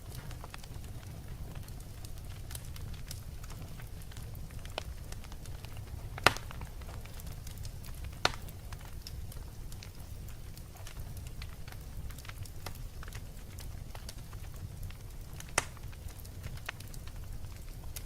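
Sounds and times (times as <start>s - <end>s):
fire pops: 0.0s - 18.0s
wood fire crackling: 0.0s - 18.0s.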